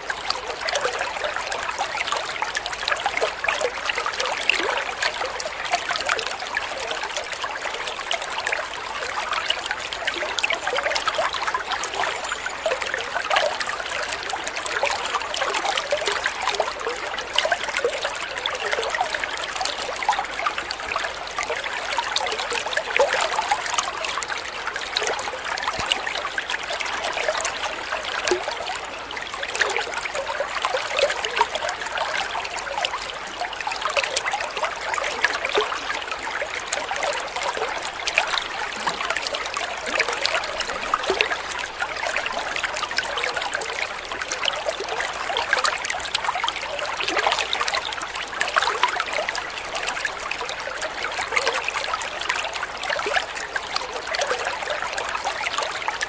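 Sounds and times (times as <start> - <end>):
water babbling over stones: 0.0 - 56.0.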